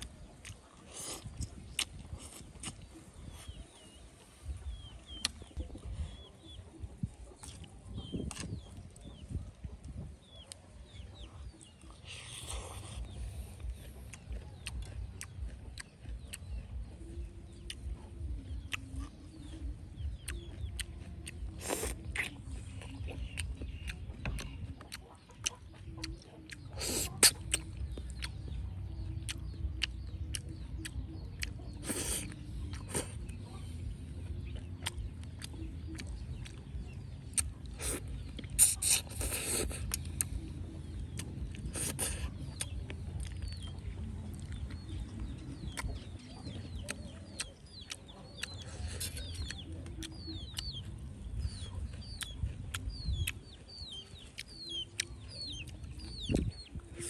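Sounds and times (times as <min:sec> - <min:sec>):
chickens clucking: 0:00.0 - 0:57.0
steady low rumble: 0:00.0 - 0:57.0.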